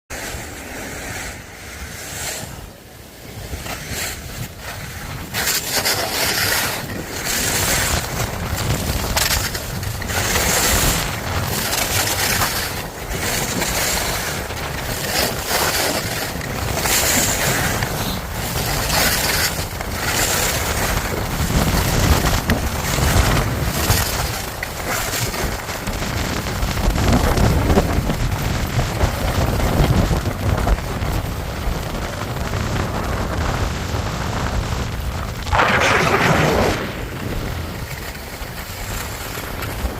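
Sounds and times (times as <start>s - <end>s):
skis scraping across snow: 0.1s - 39.9s
wind rushing over microphone: 0.1s - 39.9s.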